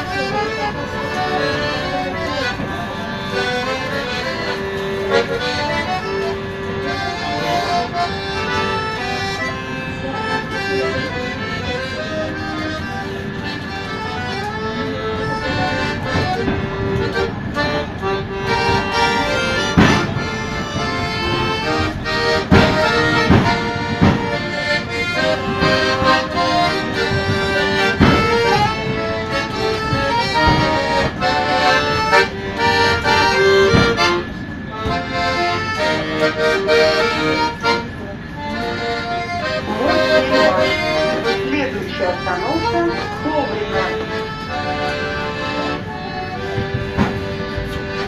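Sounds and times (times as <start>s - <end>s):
accordion playing a tune: 0.0s - 48.0s.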